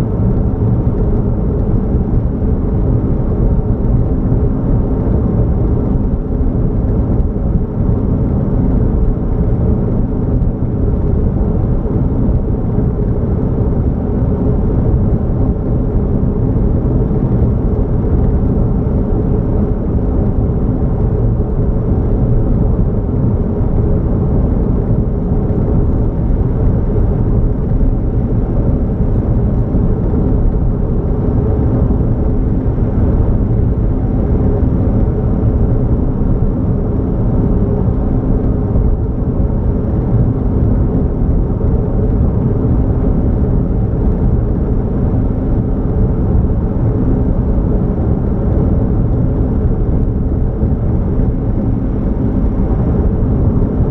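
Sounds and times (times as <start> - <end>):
vehicle driving rumble: 0.0 - 53.9.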